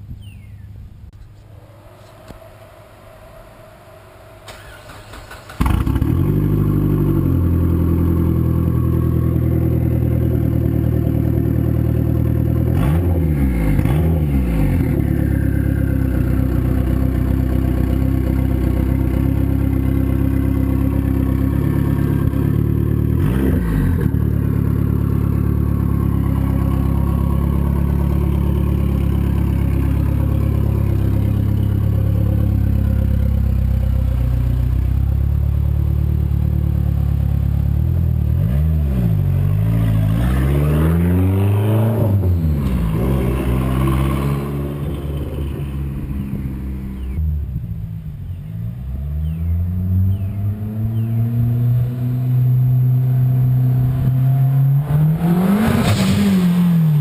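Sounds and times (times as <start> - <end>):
car engine idling and revving: 1.4 - 57.0.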